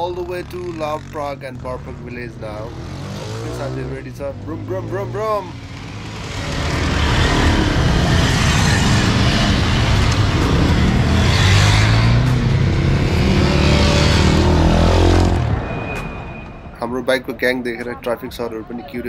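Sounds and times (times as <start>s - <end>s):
dirt bikes revving past: 0.4s - 15.7s.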